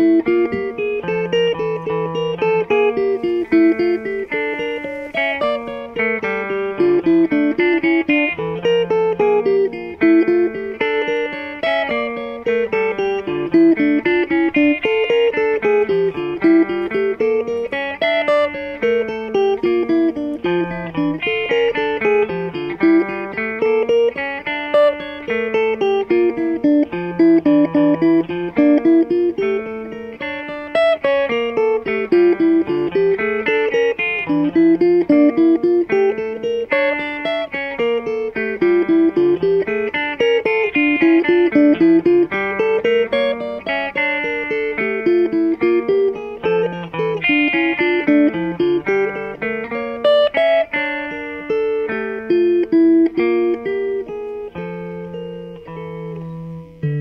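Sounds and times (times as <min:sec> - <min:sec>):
guitars picking single notes: 0:00.0 - 0:57.0.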